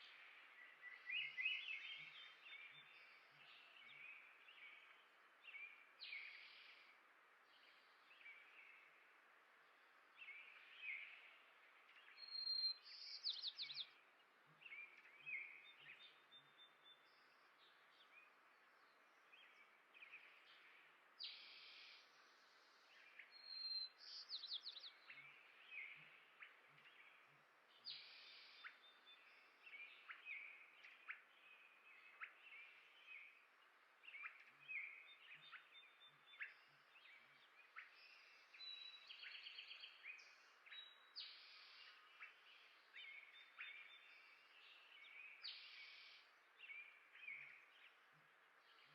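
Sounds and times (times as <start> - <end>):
faint outdoor hiss: 0.0 - 48.9
songbirds chirping: 0.0 - 48.9.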